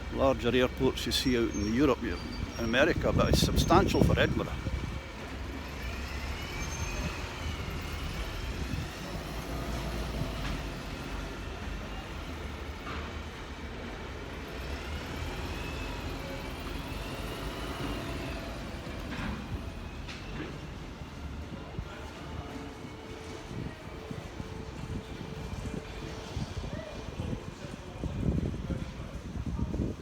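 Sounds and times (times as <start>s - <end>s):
tram rumble: 0.0s - 30.0s.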